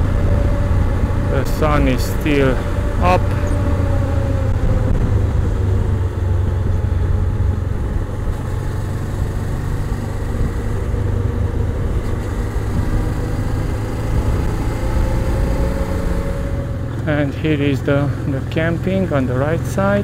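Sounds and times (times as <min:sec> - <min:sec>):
wind rush: 0:00.0 - 0:16.8
motorcycle engine running: 0:00.0 - 0:20.0.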